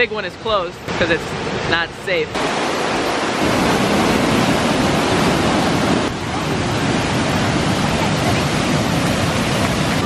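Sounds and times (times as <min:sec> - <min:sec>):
small waterfall rushing: 0:00.0 - 0:10.0.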